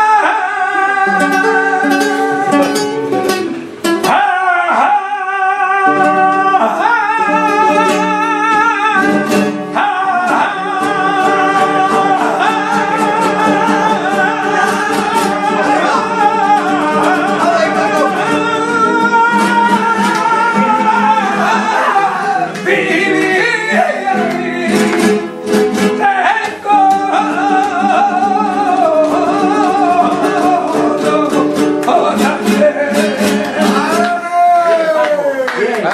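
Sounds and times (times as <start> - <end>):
flamenco guitar: 0.0 - 35.9
man singing flamenco: 0.0 - 35.9.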